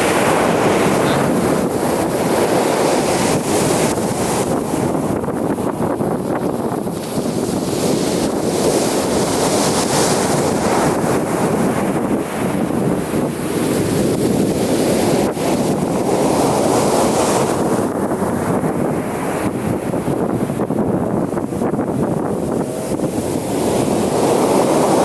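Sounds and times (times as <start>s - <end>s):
ocean waves breaking: 0.0s - 25.0s
wind on microphone: 0.0s - 25.0s.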